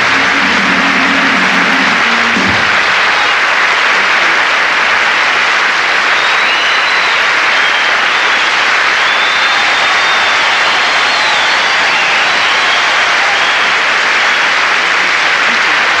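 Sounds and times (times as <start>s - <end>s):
audience applauding loudly: 0.0s - 16.0s.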